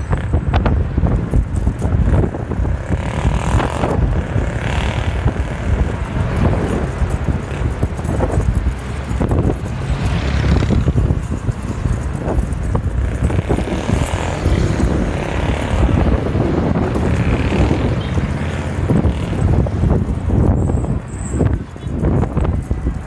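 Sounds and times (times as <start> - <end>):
road rumble: 0.0 - 23.0
wind buffeting microphone: 0.0 - 23.0.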